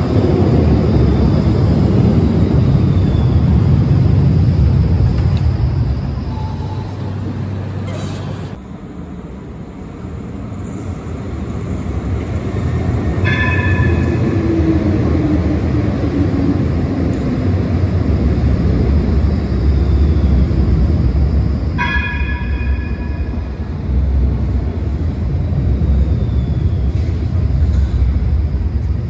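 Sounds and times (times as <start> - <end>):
tram wheels rumbling on rail: 0.0 - 29.0.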